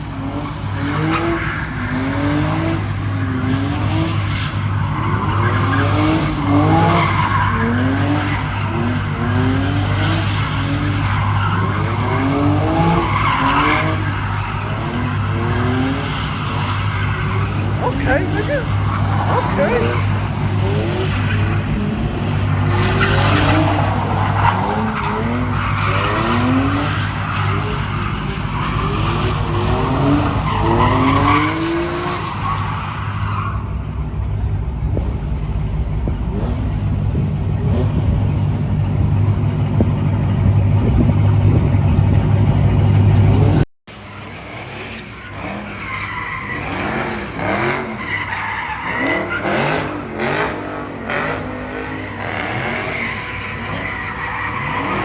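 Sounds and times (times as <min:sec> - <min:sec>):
tyres squealing and skidding: 0:00.0 - 0:34.4, 0:37.4 - 0:55.0
car engines revving hard: 0:00.0 - 0:55.0.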